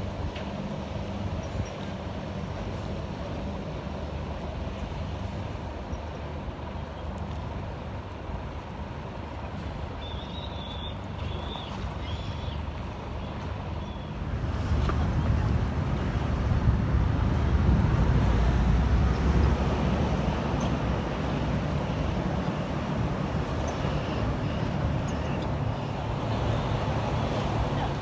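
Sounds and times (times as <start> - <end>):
boat and city engines rumbling: 0.0 - 28.0
moving water: 0.0 - 28.0.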